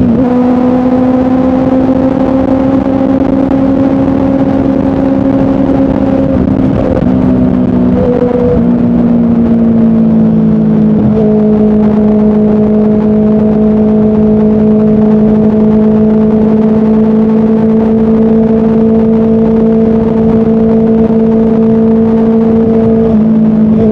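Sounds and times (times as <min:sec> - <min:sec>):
motorcycle engine cruising: 0:00.0 - 0:23.9
steady rush of noise: 0:00.0 - 0:23.9.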